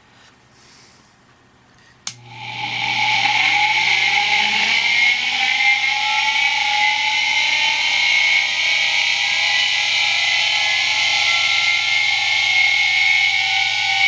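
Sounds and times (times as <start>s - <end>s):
electric motor whine: 2.2s - 14.0s.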